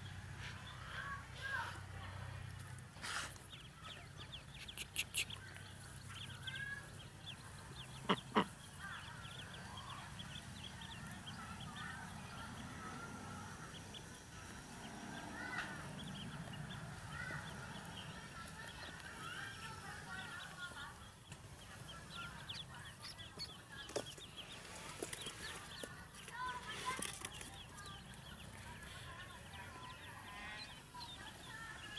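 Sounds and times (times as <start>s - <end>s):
ducklings peeping: 0.0s - 31.9s.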